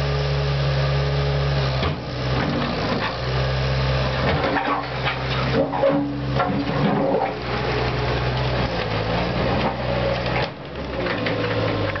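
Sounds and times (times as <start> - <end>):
track loader diesel engine humming: 0.0 - 12.0.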